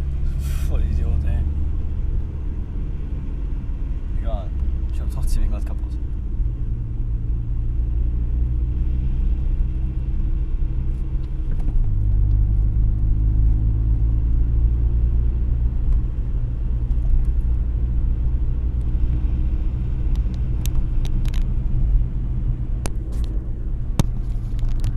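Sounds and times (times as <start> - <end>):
car engine drone from inside cabin: 0.0 - 24.9
road rumble: 0.0 - 24.9.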